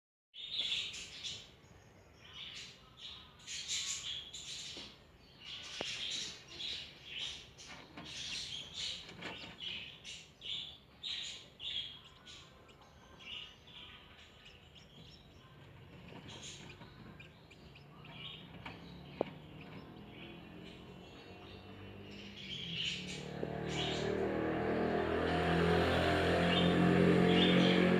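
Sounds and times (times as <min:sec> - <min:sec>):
chicks peeping: 0:02.4 - 0:27.9.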